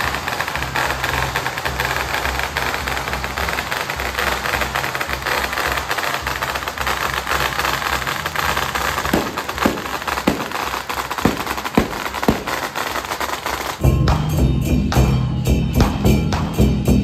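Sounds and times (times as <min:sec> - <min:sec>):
busy street noise: 0:00.0 - 0:17.0
sharp percussion strikes: 0:00.0 - 0:17.0.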